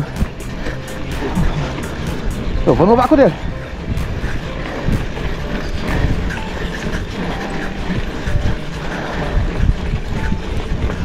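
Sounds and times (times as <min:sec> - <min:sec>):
bike tyres rumbling over dirt: 0:00.0 - 0:11.0
wind noise on microphone: 0:00.0 - 0:11.0.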